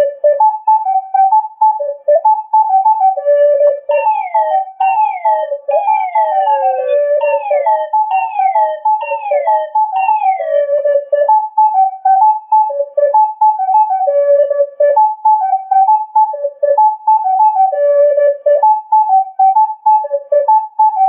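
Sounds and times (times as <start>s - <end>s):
flute-like melody: 0.0s - 21.0s.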